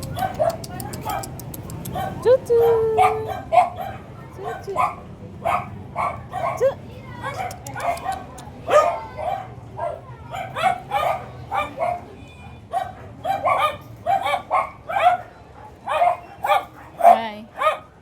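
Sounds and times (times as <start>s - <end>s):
dogs barking rapidly: 0.0s - 12.1s, 12.7s - 18.0s.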